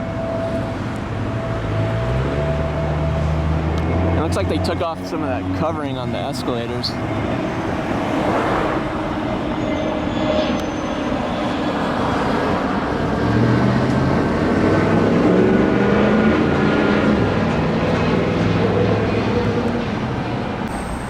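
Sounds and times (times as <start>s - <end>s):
heavy engine hum: 0.0s - 21.0s
road traffic: 0.0s - 21.0s.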